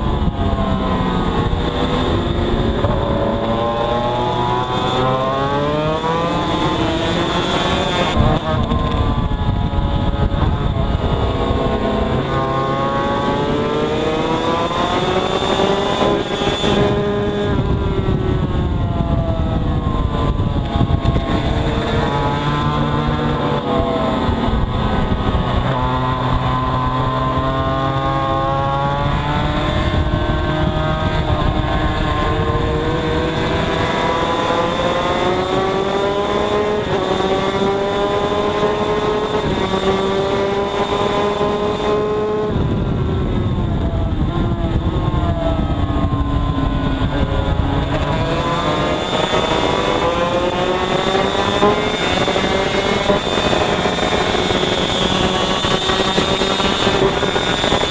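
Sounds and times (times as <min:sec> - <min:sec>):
two-stroke racing engine: 0:00.0 - 0:57.9.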